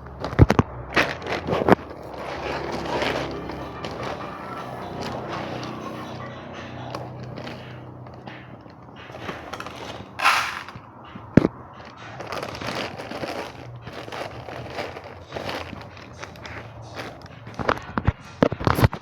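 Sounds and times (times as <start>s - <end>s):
wet chewing: 0.0s - 18.0s.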